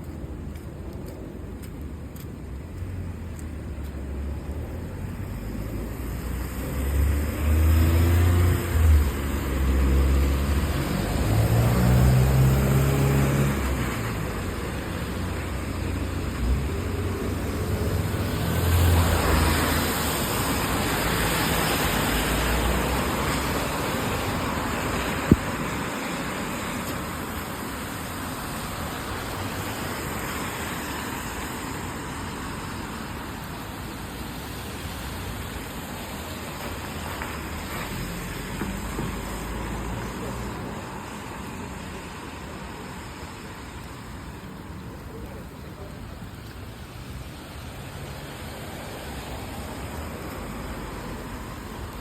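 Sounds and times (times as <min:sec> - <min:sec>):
tyres hissing on wet road: 0:00.0 - 0:52.0
vehicle engine rumble: 0:00.0 - 0:52.0.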